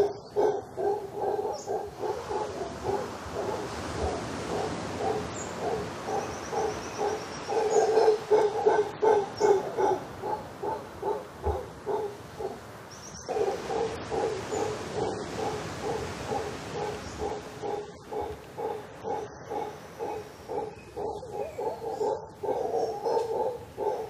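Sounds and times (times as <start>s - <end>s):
howler monkey grunting calls: 0.0s - 12.6s, 13.3s - 24.0s.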